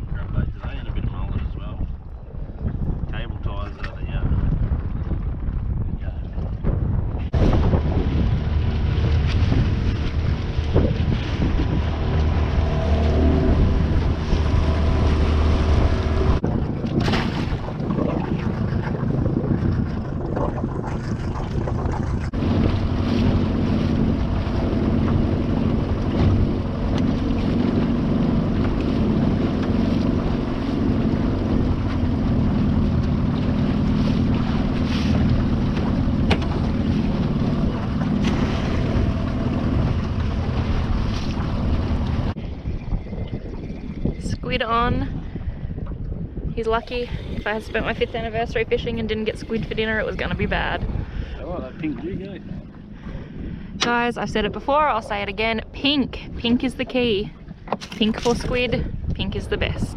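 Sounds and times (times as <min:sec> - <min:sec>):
strong wind buffeting microphone: 0:00.0 - 0:59.9
water slapping: 0:00.0 - 0:59.9
steady low hum: 0:07.3 - 0:59.9.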